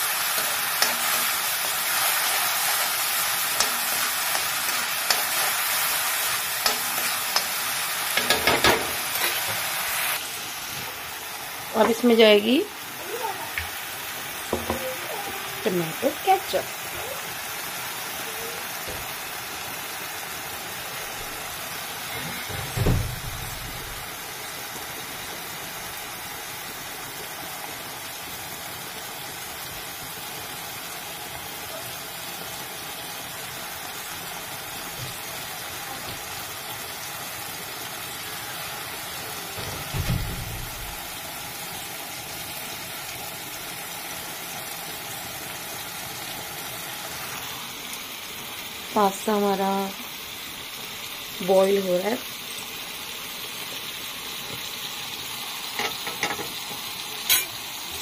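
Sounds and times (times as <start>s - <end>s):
gas burners hissing: 0.0s - 31.5s, 32.4s - 58.0s.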